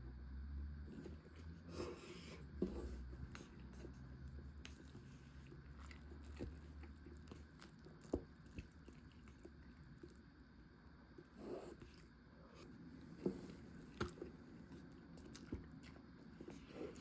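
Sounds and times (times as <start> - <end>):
low steady hum: 0.0 - 17.0
soft chewing: 0.9 - 17.0.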